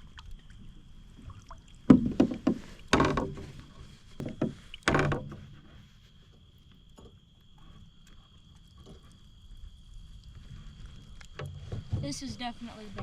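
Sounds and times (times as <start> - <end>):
water splashing against kayak hull: 0.0 - 13.0.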